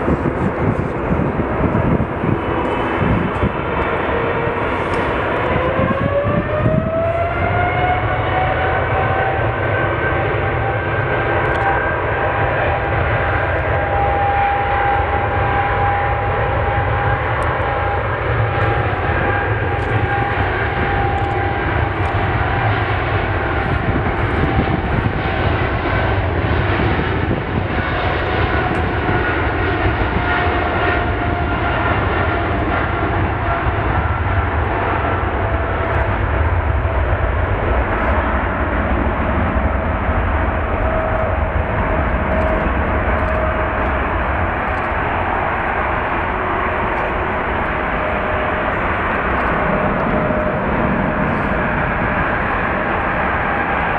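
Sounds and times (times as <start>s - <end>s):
jet engine rumble: 0.0s - 53.9s
jet engines whining: 0.0s - 53.9s.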